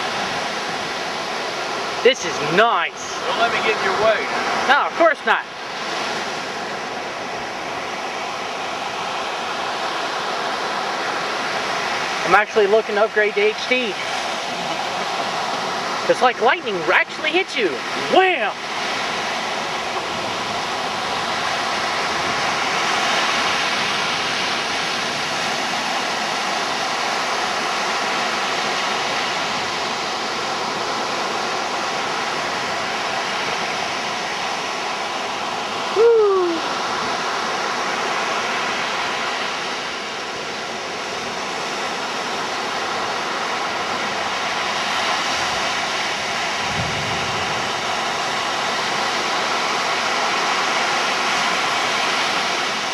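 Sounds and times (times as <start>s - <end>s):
surf breaking on beach: 0.0s - 52.9s.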